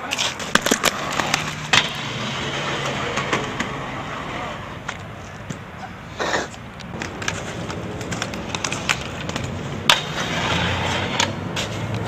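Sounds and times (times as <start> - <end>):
skate wheels rolling on concrete: 0.0 - 12.0
traffic rumble: 0.0 - 12.0.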